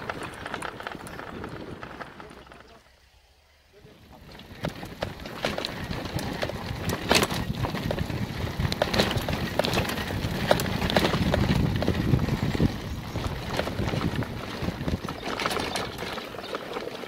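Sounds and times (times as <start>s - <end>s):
bike and load rattling: 0.0s - 2.9s, 3.8s - 17.0s.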